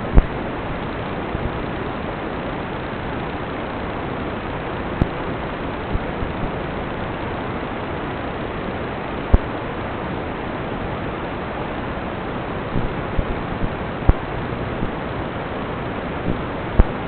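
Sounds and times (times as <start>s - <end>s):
static-like hiss: 0.0s - 17.0s.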